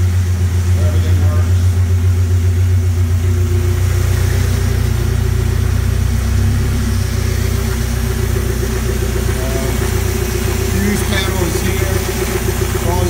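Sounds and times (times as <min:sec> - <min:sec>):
buggy engine idling: 0:00.0 - 0:13.0.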